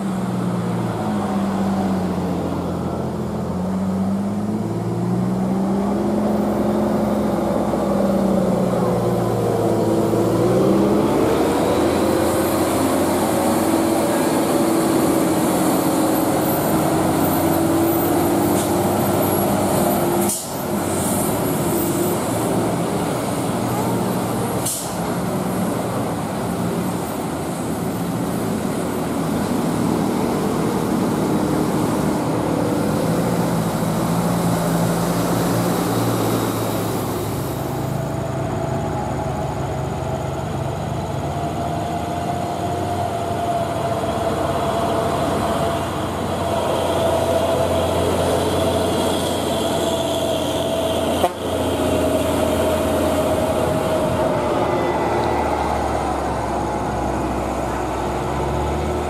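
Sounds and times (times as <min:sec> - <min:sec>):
road traffic: 0:00.0 - 0:59.0
truck diesel engines passing: 0:00.0 - 0:59.0.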